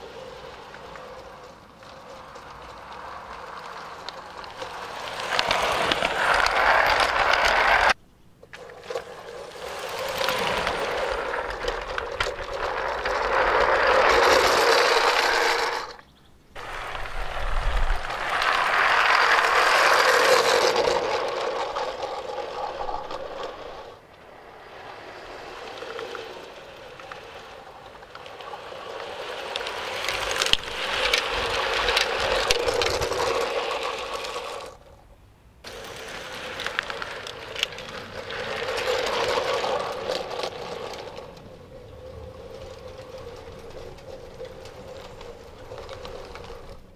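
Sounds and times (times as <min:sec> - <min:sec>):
model train motor whirring: 0:00.0 - 0:16.0, 0:16.6 - 0:34.9, 0:35.6 - 0:46.9
wheels clicking over track: 0:00.0 - 0:46.9.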